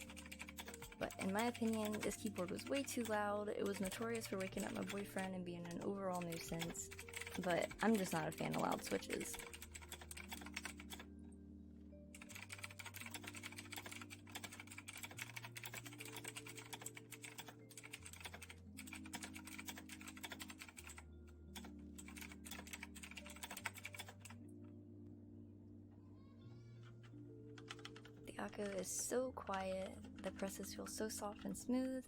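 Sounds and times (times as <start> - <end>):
mechanical keyboard typing: 0.0 - 11.1, 12.2 - 24.4, 27.0 - 32.0
soft background music: 0.0 - 32.0.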